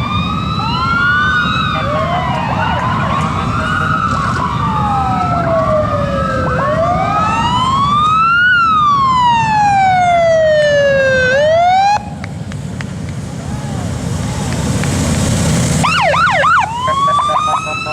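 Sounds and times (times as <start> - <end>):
emergency vehicle sirens wailing: 0.0 - 17.9
motorcycle engines rumbling: 0.0 - 17.9.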